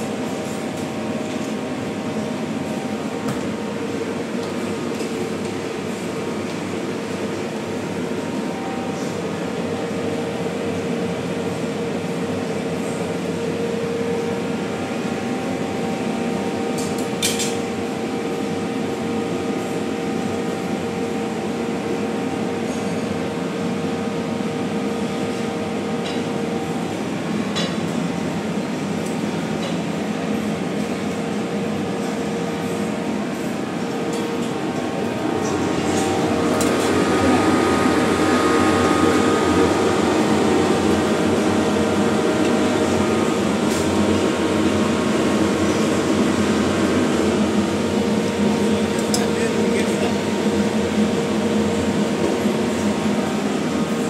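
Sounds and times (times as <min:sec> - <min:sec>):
ventilation hum: 0:00.0 - 0:54.0.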